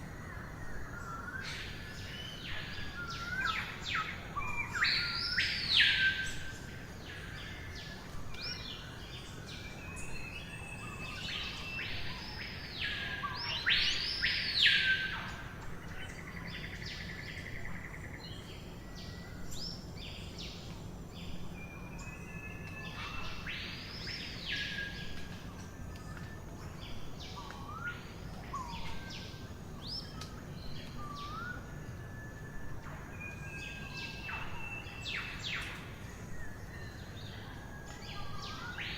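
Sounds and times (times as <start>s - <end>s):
birds high whistles and chirps: 0.0s - 38.9s
low background noise: 0.0s - 38.9s.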